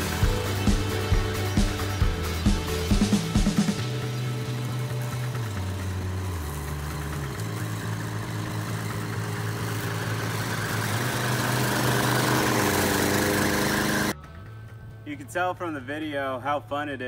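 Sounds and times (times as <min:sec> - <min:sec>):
small gasoline engine running: 0:00.0 - 0:14.2.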